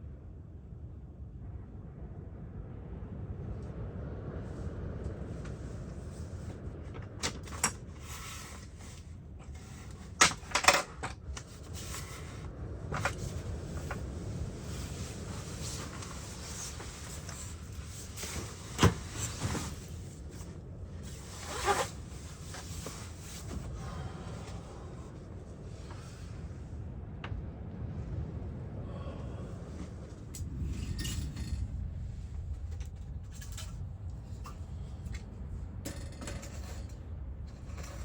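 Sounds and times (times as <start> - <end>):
low rumble: 0.0 - 10.1, 11.2 - 38.0.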